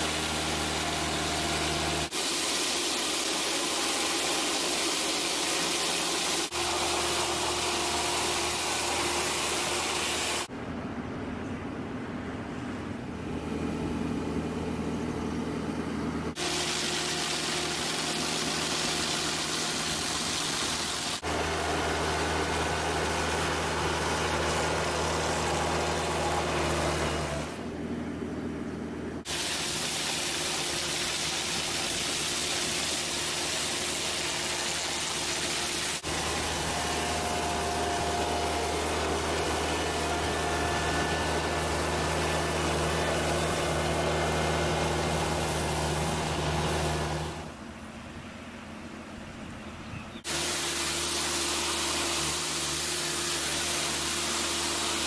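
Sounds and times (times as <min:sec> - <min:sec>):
street sweeper engine hum: 0:00.0 - 0:03.0, 0:03.7 - 0:55.0
rotary brush scrubbing paving: 0:00.0 - 0:10.5, 0:16.3 - 0:27.6, 0:29.3 - 0:47.6, 0:50.2 - 0:55.0.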